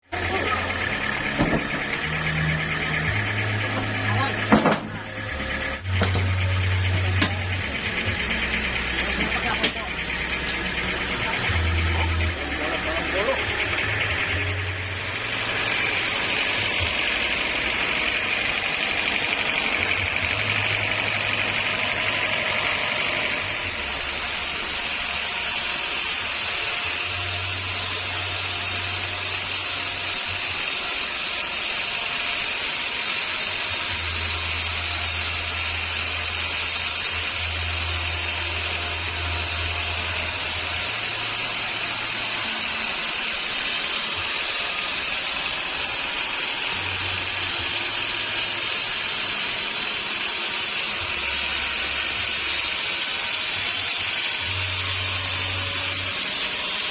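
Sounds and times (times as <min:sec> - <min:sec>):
sawmill machine whine: 0:00.0 - 0:56.9.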